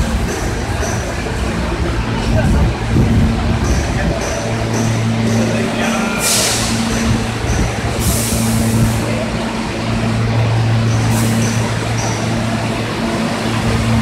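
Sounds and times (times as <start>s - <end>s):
train electric hum: 0.0s - 14.0s.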